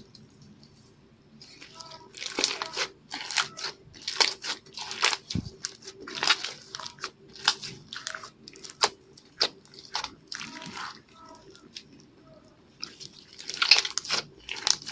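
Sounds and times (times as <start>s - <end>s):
slime squished by hand: 1.4s - 12.0s, 12.7s - 14.9s.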